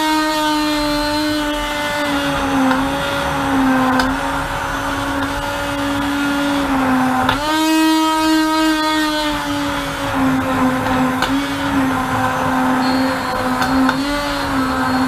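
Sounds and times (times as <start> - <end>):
immersion blender motor whine: 0.0 - 15.0.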